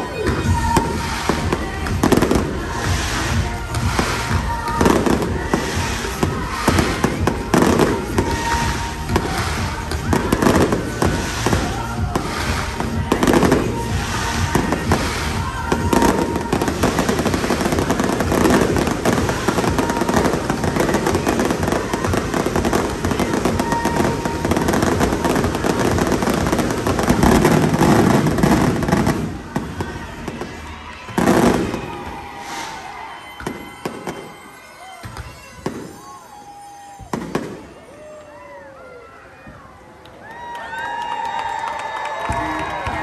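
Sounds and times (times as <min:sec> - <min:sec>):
song playing: 0:00.0 - 0:35.0
fireworks booming and crackling: 0:00.0 - 0:38.2.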